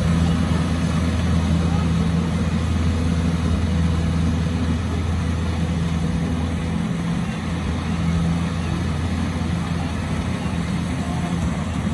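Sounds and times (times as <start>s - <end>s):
combine harvester engine humming: 0.0s - 11.9s.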